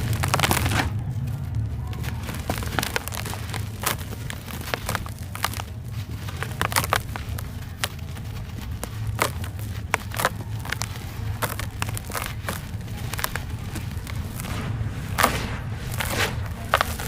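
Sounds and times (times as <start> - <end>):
dry sand crumbling and crunching: 0.0 - 17.0
low steady hum: 0.0 - 17.0.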